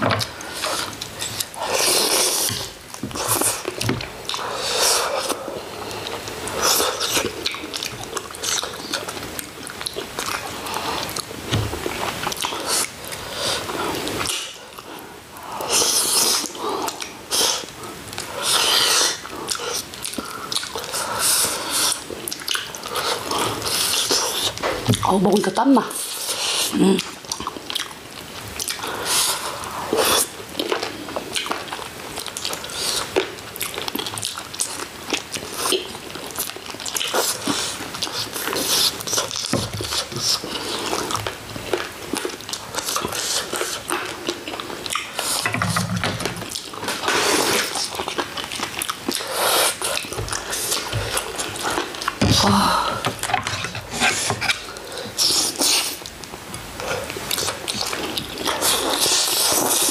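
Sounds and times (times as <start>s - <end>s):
chewing and biting food: 0.1s - 25.0s, 26.0s - 59.9s.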